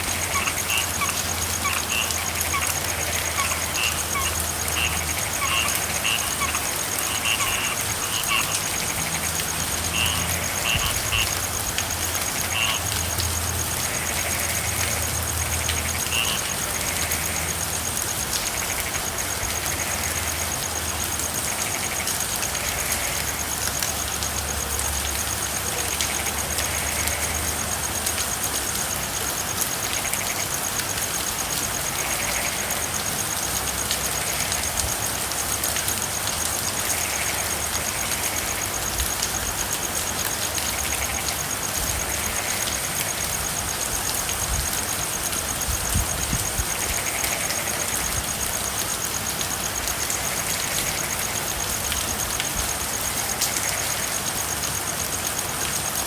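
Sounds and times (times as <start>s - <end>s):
frogs calling: 0.0s - 56.0s
rain drops ticking: 0.0s - 56.0s.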